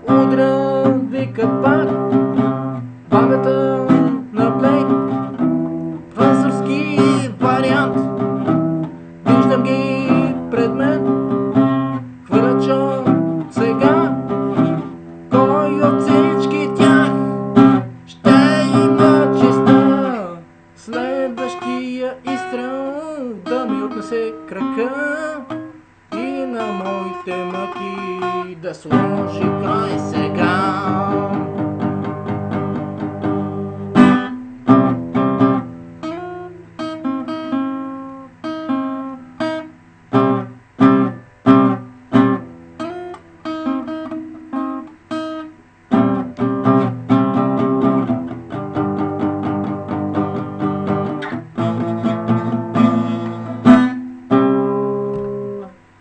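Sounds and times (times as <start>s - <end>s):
blues acoustic guitar: 0.0s - 56.0s.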